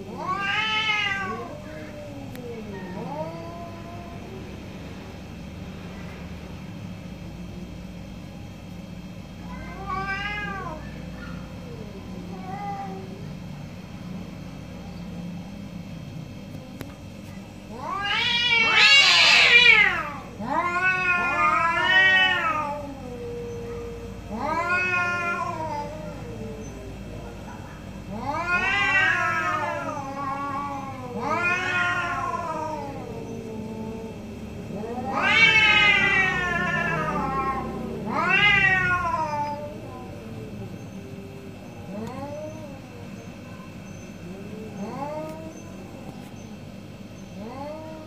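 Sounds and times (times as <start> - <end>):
cats yowling: 0.0 - 5.0, 9.4 - 15.7, 16.5 - 48.0.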